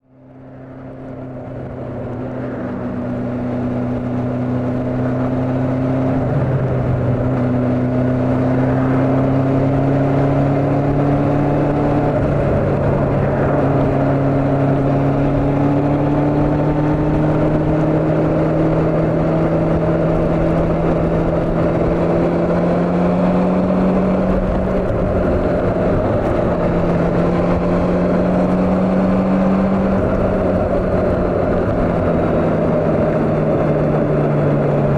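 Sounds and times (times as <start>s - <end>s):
motorcycle engine running: 0.0s - 34.9s
rushing wind: 0.0s - 34.9s.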